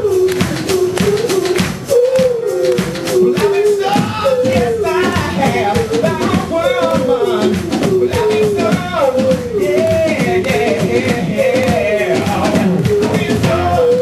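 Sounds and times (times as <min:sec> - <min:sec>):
drum kit: 0:00.0 - 0:14.0
man singing: 0:00.0 - 0:14.0.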